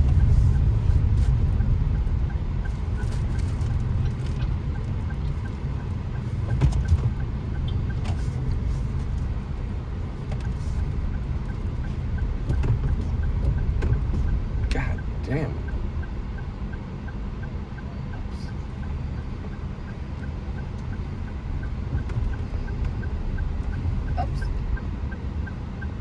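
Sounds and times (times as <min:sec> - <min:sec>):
car road and engine rumble: 0:00.0 - 0:26.0
faint regular ticking: 0:00.0 - 0:26.0.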